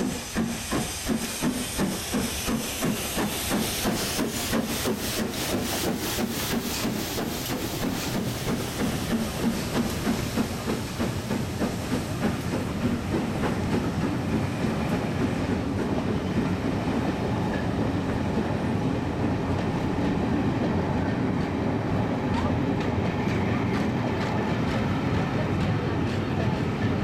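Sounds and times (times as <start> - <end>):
steam locomotive exhaust chuffs: 0.0 - 27.0.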